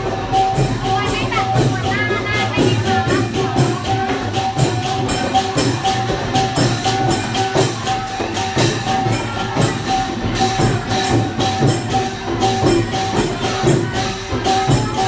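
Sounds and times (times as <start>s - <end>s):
lively procession music: 0.0s - 15.0s.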